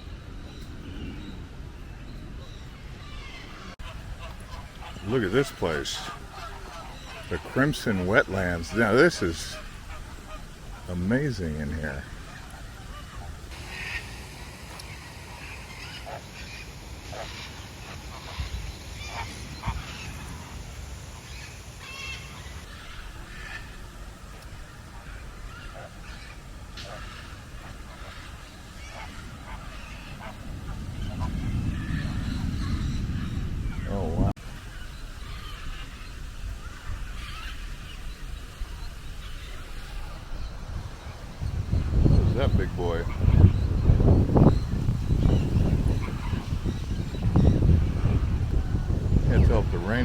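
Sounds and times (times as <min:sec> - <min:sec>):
faint bird calls: 0:00.0 - 0:50.0
wind rumble on microphone: 0:00.0 - 0:50.0
flamingos honking: 0:03.0 - 0:50.0.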